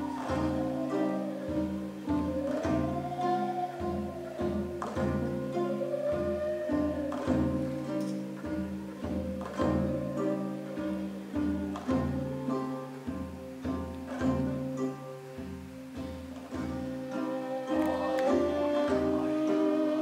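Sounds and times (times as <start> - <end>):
bowed string melody: 0.0 - 20.0
plucked string rhythm: 0.0 - 20.0.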